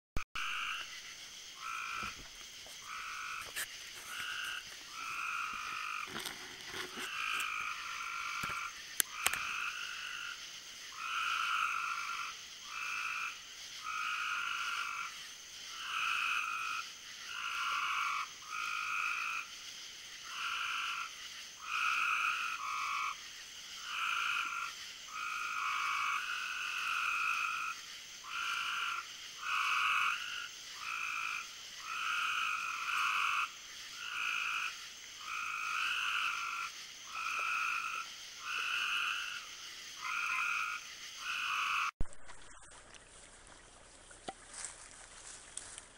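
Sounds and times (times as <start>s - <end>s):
frogs croaking: 0.4s - 45.9s.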